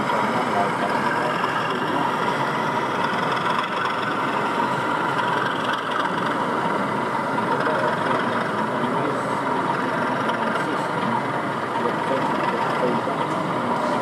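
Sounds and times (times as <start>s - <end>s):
diesel engine from small speaker: 0.0s - 14.0s.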